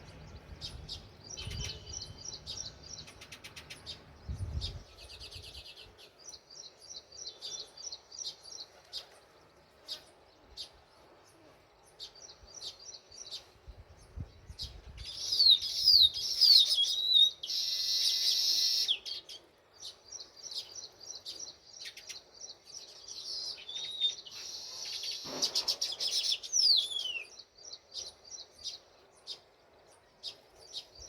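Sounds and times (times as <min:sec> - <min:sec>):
sparrows chirping: 0:00.0 - 0:31.0.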